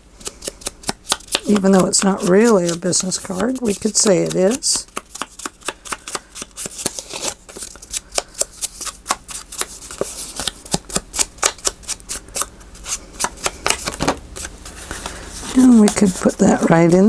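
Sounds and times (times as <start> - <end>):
paper and card clicking: 0.2 - 16.4
paper rustling: 0.2 - 17.0.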